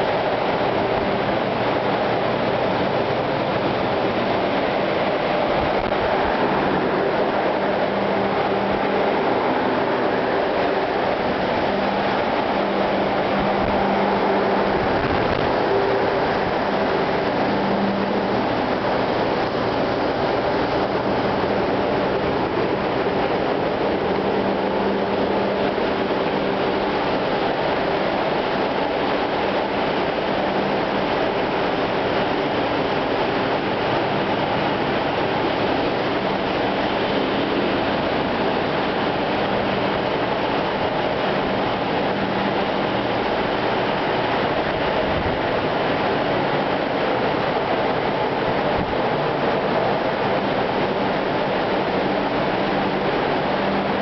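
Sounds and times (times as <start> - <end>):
faint steady hum: 0.0 - 54.0
ship diesel engine running: 0.0 - 54.0.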